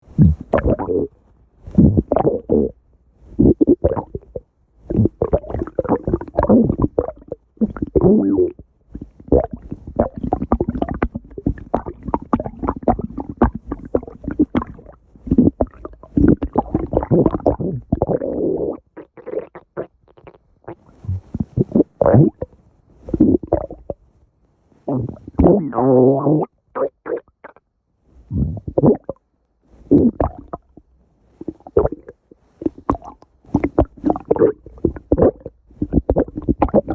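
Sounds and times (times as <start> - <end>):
stomach growling: 0.1 - 24.0, 24.8 - 27.6, 28.3 - 29.2, 29.8 - 36.9.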